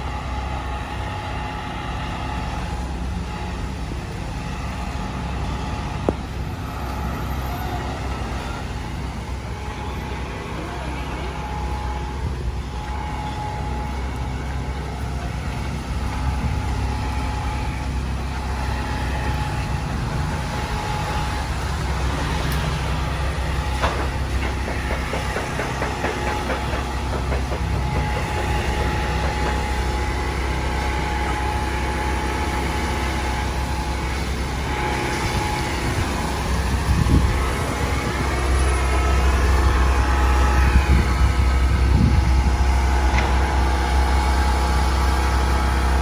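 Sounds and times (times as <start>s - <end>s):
street traffic rumble: 0.0s - 46.0s.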